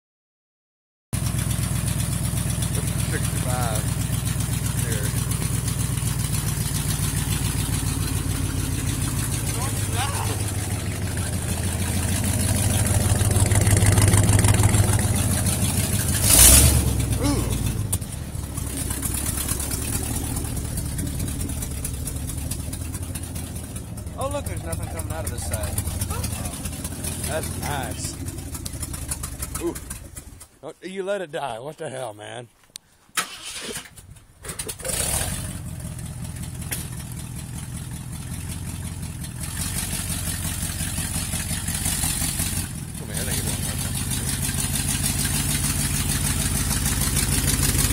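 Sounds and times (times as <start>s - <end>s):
engine idling: 1.2s - 30.6s, 33.2s - 47.9s
ticking exhaust leak puffs: 1.2s - 30.6s, 32.7s - 47.9s.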